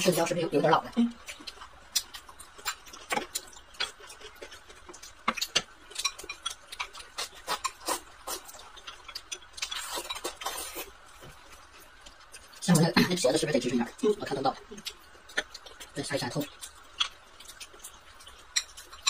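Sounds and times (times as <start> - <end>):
chewing and mouth clicks: 1.1 - 13.0, 14.7 - 19.0.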